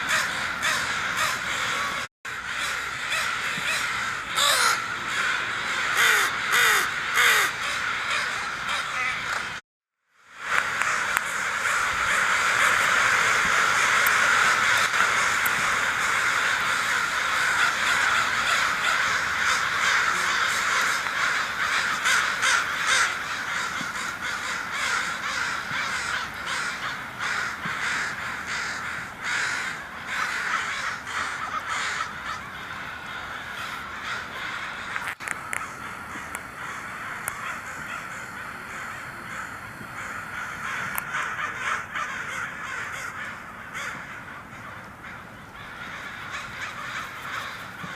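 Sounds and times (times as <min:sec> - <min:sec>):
crows cawing: 0:00.0 - 0:09.6, 0:10.3 - 0:47.9.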